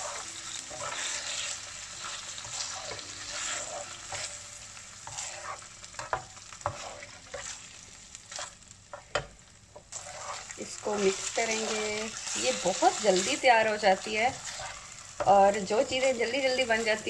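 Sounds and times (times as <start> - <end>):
livers sizzling in oil: 0.0 - 17.0
spatula scraping pan: 0.0 - 17.0.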